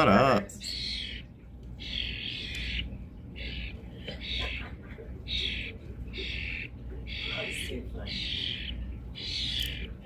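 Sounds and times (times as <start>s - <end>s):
starling harsh begging calls: 0.6s - 10.0s.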